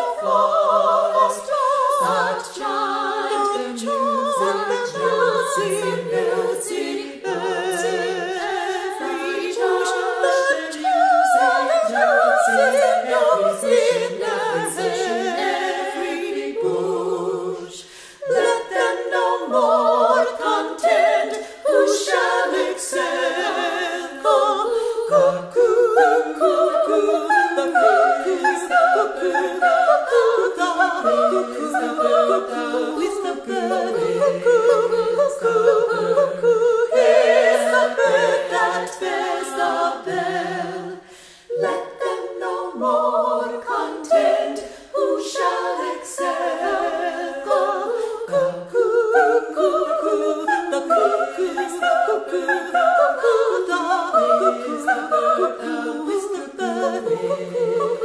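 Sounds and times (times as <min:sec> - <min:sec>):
women's a cappella choir singing: 0:00.0 - 0:58.0.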